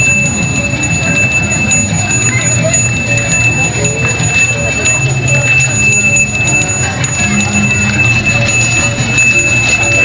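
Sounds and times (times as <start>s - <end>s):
bell ringing steady high tone: 0.0s - 10.0s.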